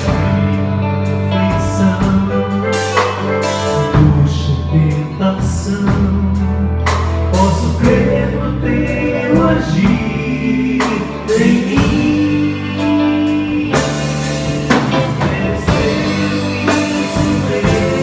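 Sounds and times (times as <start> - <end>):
bass notes: 0.0 - 18.0
person singing: 0.0 - 18.0.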